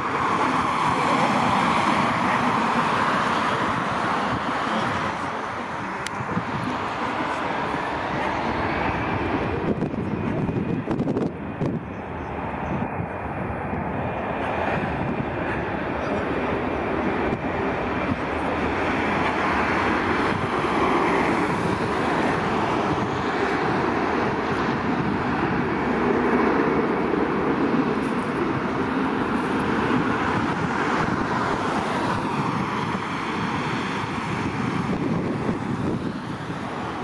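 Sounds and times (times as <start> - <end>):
jet engines at takeoff power: 0.0 - 37.0.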